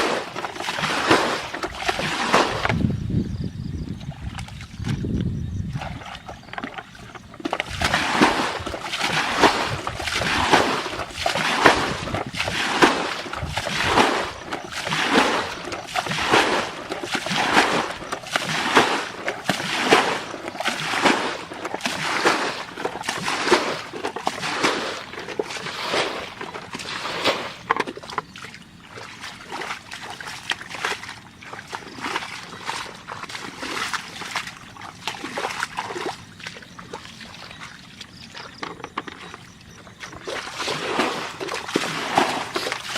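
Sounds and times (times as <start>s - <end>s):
water splashing rhythmically: 0.0s - 42.9s.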